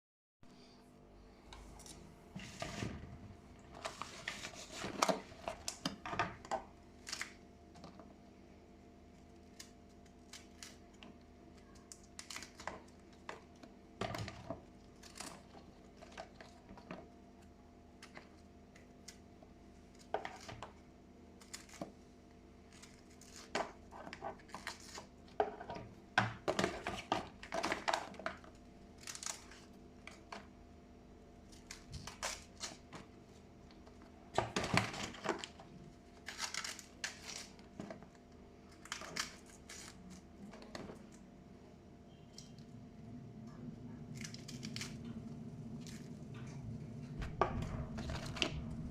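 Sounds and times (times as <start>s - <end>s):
faint steady hum: 0.4s - 48.9s
crinkling and rustling: 1.5s - 8.2s, 9.0s - 30.6s, 31.4s - 41.4s, 43.4s - 48.9s.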